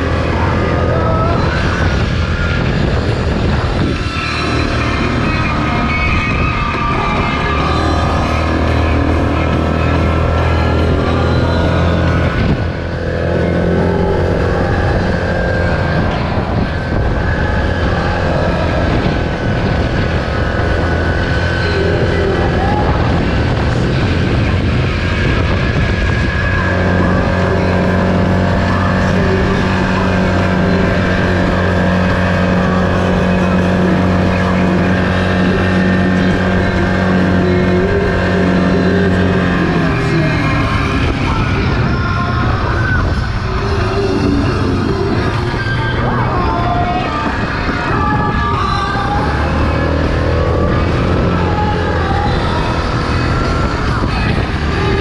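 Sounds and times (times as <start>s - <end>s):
atv engine running steadily: 0.0s - 55.0s.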